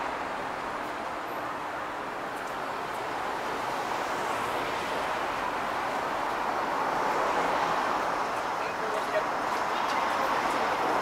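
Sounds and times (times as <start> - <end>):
passing cars rushing: 0.0 - 11.0.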